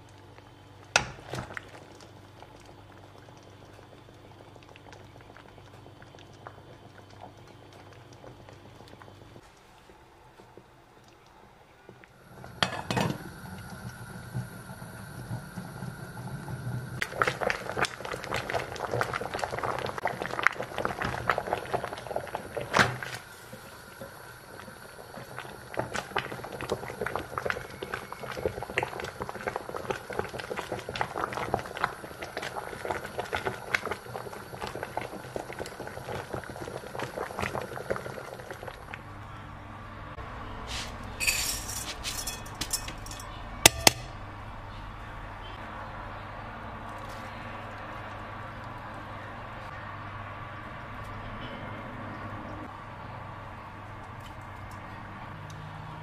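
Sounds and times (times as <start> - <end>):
liquid boiling in a pot: 0.0 - 39.3, 41.2 - 44.1, 45.4 - 51.1.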